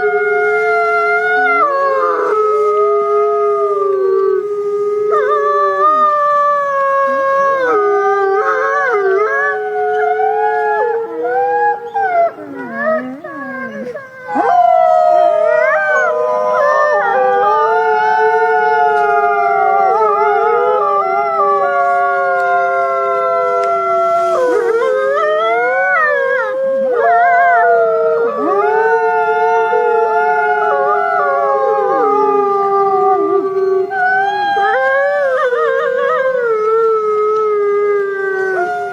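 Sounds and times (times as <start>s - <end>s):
wolves howling in chorus: 0.0s - 38.9s.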